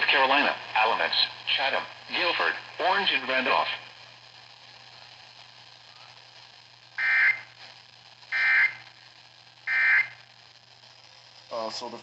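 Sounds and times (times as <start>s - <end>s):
faint radio hiss and hum: 0.0s - 12.0s
buzzy digital data bursts: 2.0s - 12.0s.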